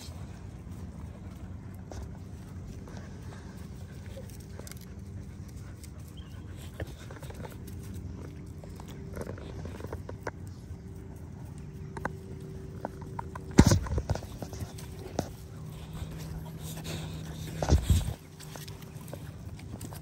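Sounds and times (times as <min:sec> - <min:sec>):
dogs moving on grass: 0:00.0 - 0:20.0.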